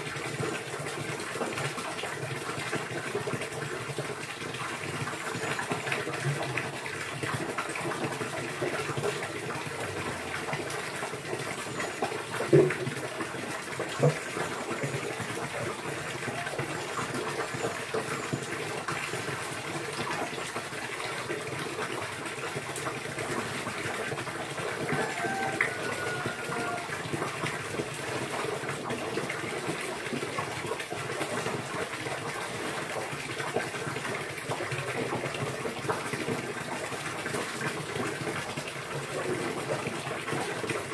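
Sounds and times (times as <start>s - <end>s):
gushing water: 0.0s - 40.9s.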